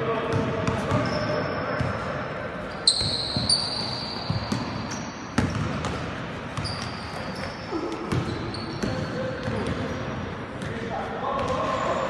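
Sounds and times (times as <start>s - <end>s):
sneakers squeaking on court: 0.3s - 10.8s.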